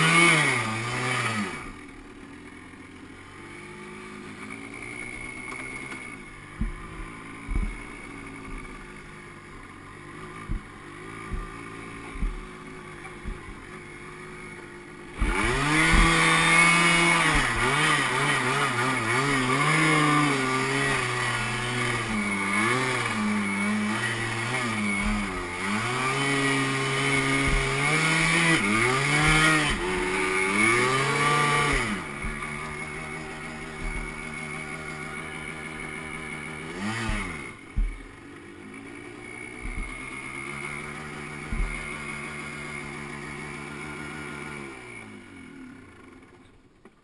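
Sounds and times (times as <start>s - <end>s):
two-stroke engine revving: 0.0s - 47.0s.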